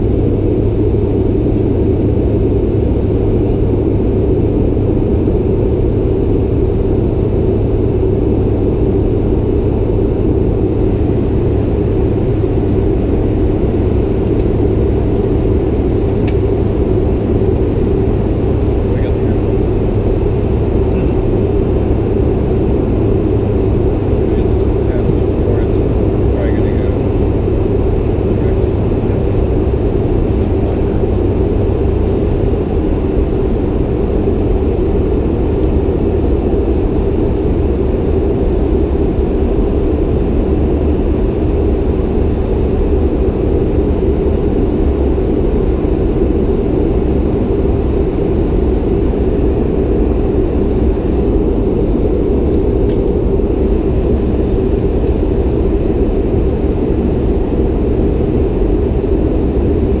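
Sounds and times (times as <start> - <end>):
jet engine drone: 0.0 - 60.0
rushing airflow: 0.0 - 60.0.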